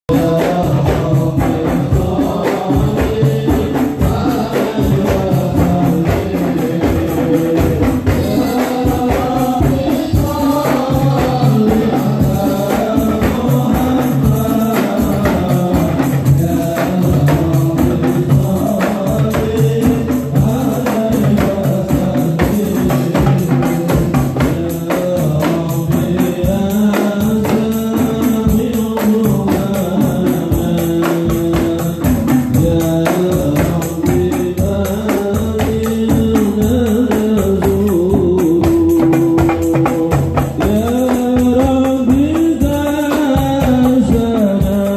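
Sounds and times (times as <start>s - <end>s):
men singing devotional songs: 0.0s - 44.9s
fast frame drums: 0.1s - 44.9s
hand drums: 0.1s - 44.9s.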